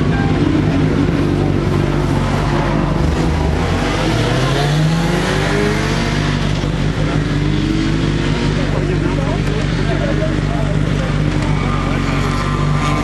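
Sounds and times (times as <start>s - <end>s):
racing car engine revving: 0.0s - 13.0s.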